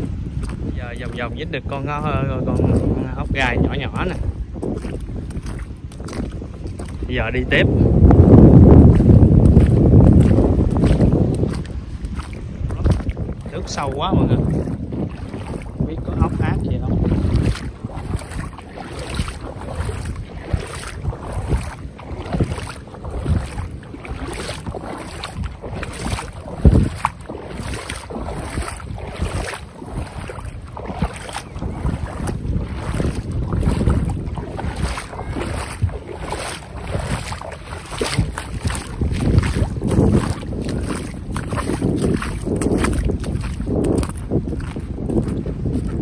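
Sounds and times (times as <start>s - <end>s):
water sloshing and splashing: 0.0s - 46.0s
wind buffeting microphone: 0.0s - 46.0s.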